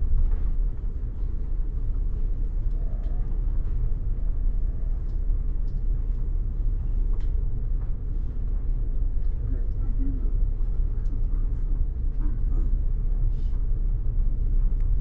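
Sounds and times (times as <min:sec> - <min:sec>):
bus rumble from inside: 0:00.0 - 0:15.0.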